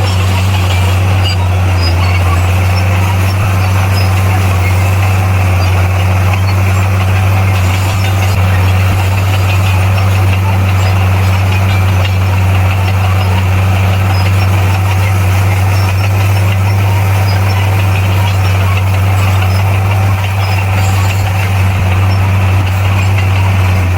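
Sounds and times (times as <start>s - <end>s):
bulldozer diesel engine droning: 0.0s - 23.9s.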